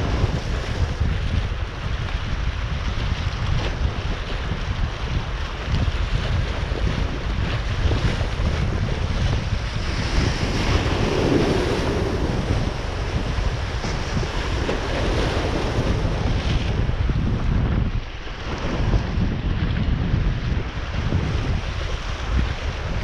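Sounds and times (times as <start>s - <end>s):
waves washing: 0.0s - 23.0s
wind buffeting microphone: 0.0s - 23.0s.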